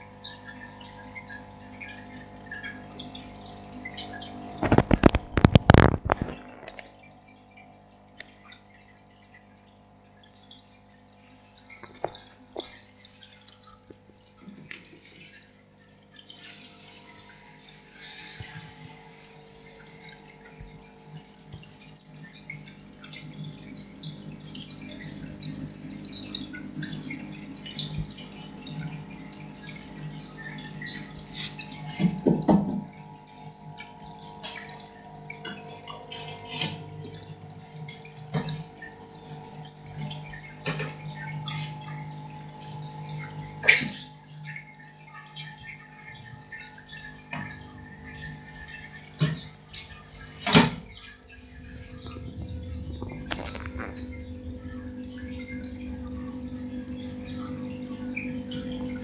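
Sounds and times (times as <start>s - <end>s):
steady mechanical hum: 0.0s - 59.0s
water trickling and dripping: 0.0s - 59.0s.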